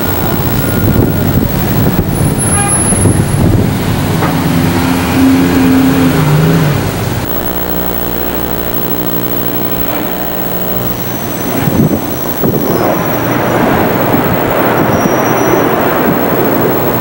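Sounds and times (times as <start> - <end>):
boat engine: 0.0 - 17.0
city traffic: 0.0 - 17.0
jet aircraft droning overhead: 0.0 - 17.0.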